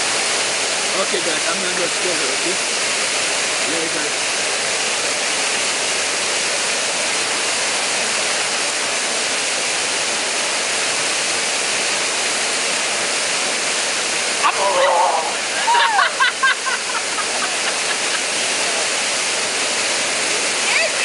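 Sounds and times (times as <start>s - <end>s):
waterfall pouring onto rocks: 0.0s - 21.0s.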